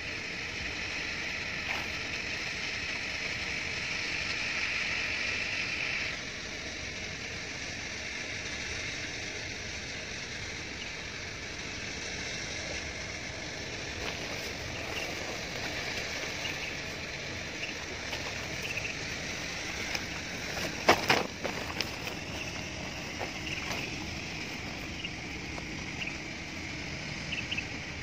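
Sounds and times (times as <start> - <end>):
insects chirring: 0.0 - 28.0
outdoor hiss: 0.0 - 28.0.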